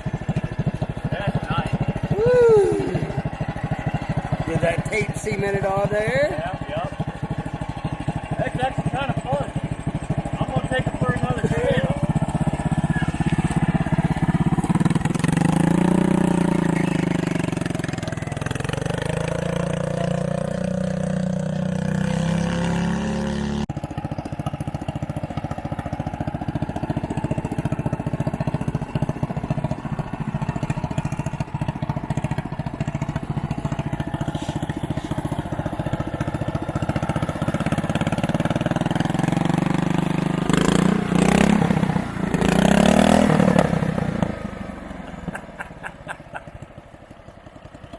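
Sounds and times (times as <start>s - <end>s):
lawn tractor engine running: 0.0s - 47.9s.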